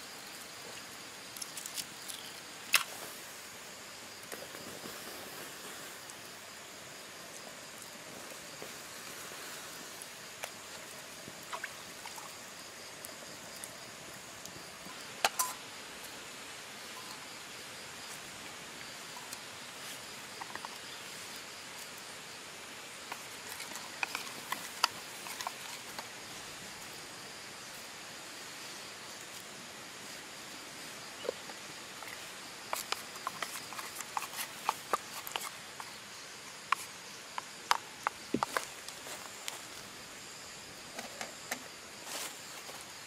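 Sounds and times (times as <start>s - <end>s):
faint high insect drone: 0.0s - 43.0s
forest background hiss: 0.0s - 43.0s.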